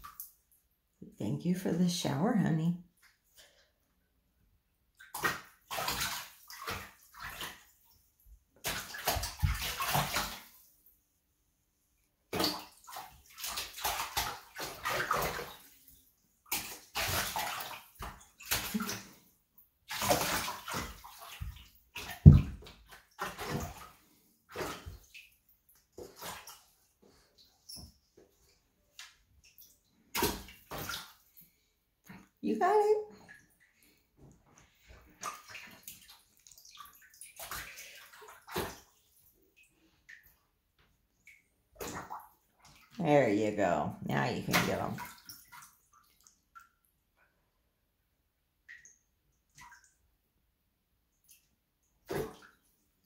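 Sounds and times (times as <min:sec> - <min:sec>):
water splashing and sloshing: 0:00.0 - 0:02.2, 0:04.6 - 0:53.0.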